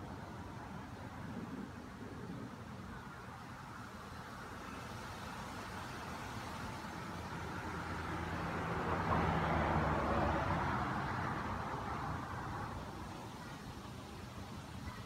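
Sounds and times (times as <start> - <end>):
road vehicle passing by: 0.0 - 14.8.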